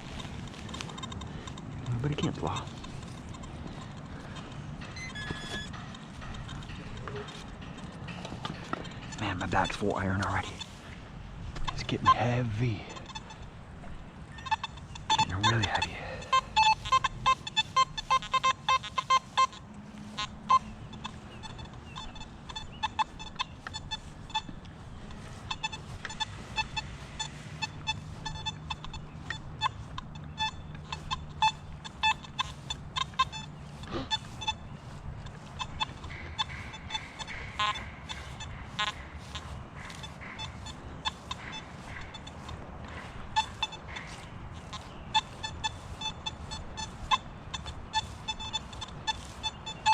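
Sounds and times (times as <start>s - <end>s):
metal detector beeps: 0.0s - 11.0s, 11.6s - 49.9s.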